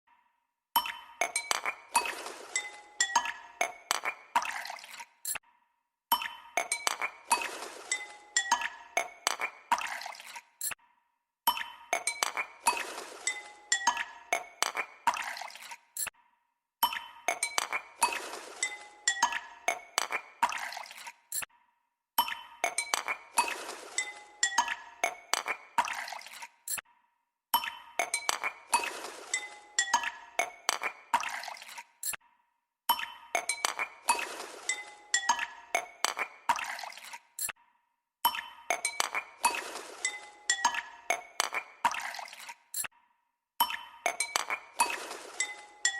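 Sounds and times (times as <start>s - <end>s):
glassy clinks and chimes music: 0.8s - 5.4s, 6.1s - 10.8s, 11.5s - 16.1s, 16.8s - 21.5s, 22.2s - 26.8s, 27.6s - 32.2s, 32.9s - 37.6s, 38.3s - 42.9s, 43.6s - 45.9s.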